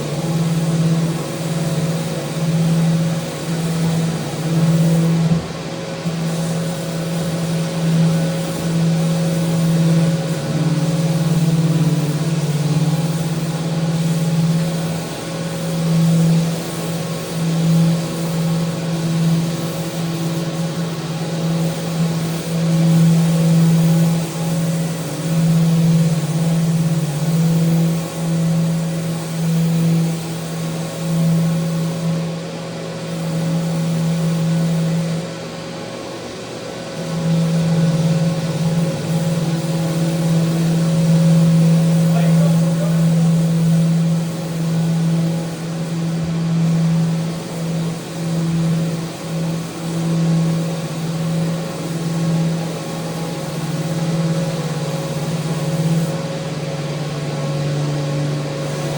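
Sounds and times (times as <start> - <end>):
electric power sander on wood: 0.0 - 35.3, 36.7 - 58.9.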